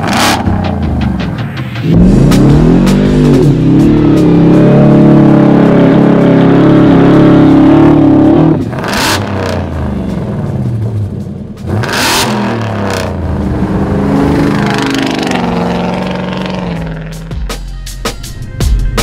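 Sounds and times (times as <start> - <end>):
truck engine revving: 0.0 - 17.5.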